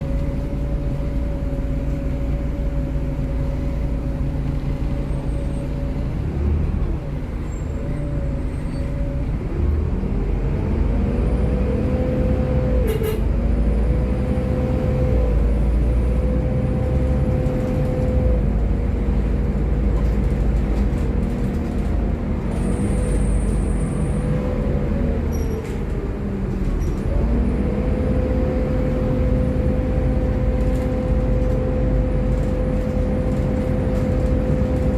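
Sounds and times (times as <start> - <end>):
bus diesel engine driving: 0.0 - 34.9.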